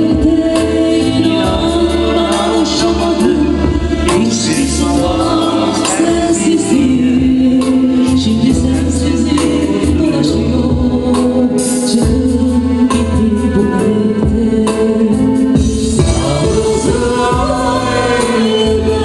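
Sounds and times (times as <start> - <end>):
bass line and percussion: 0.0 - 19.0
woman singing into microphone: 0.0 - 19.0.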